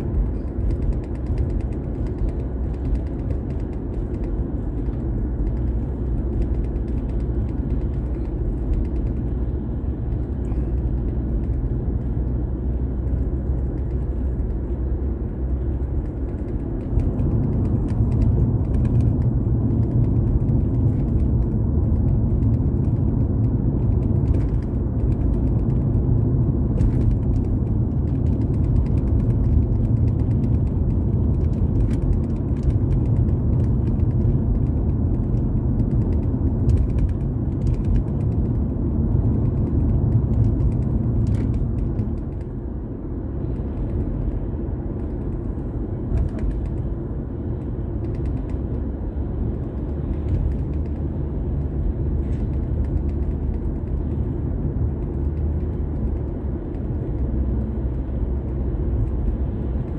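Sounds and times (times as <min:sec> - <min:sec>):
creaks and clicks: 0:00.0 - 0:42.7, 0:43.4 - 0:59.9
car road and engine rumble: 0:00.0 - 0:59.9.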